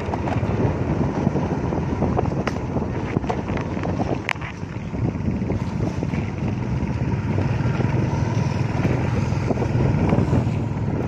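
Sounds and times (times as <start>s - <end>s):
vehicle rumbling on road: 0.0s - 11.0s
wind rushing over microphone: 0.0s - 11.0s.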